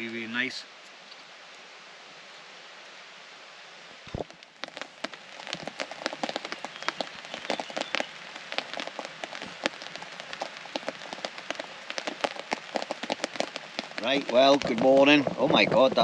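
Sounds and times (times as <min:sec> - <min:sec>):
rain pattering on tarp: 0:00.0 - 0:16.0.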